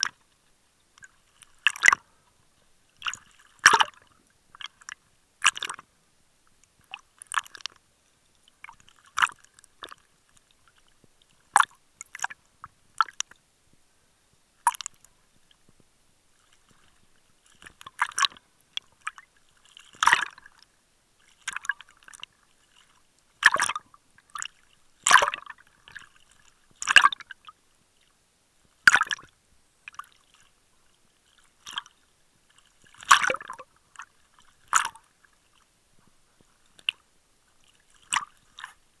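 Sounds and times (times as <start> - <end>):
small waves splashing against camera: 0.0 - 39.0.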